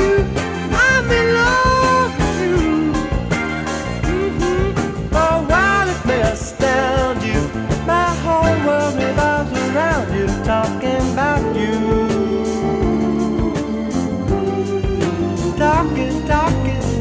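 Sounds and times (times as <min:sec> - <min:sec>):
sliding lead melody: 0:00.0 - 0:17.0
steady bass line: 0:00.0 - 0:17.0.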